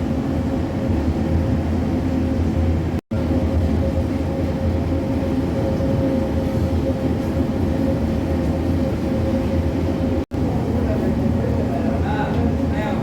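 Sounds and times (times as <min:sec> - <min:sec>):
bakery machinery hum and rumble: 0:00.0 - 0:13.0.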